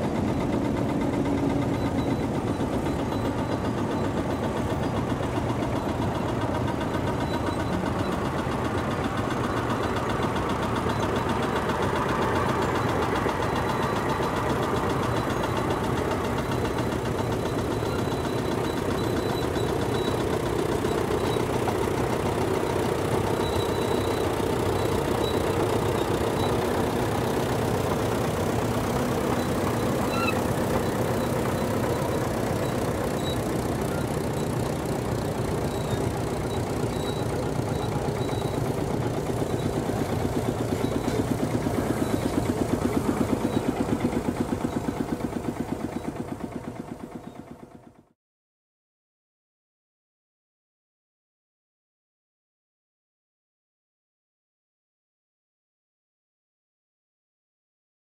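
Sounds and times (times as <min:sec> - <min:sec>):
tractor engines knocking: 0:00.0 - 0:48.0.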